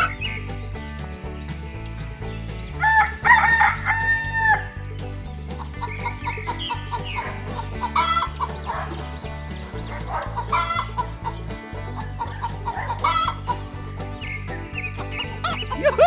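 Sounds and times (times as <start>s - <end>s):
background music with low beat: 0.0s - 16.0s
chicken clucks: 0.0s - 16.0s.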